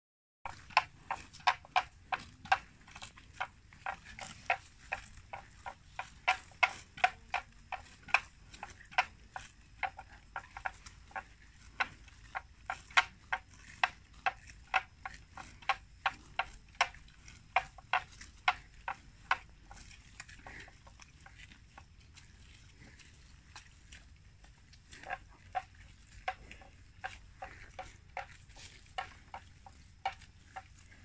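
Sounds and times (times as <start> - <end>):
buffalo tearing grass: 0.5 - 31.0.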